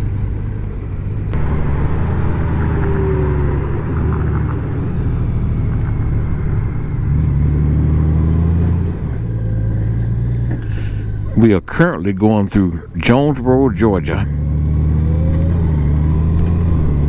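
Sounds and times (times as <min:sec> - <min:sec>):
motorcycle engine drone: 0:00.0 - 0:17.0
wind and road noise: 0:00.0 - 0:17.0.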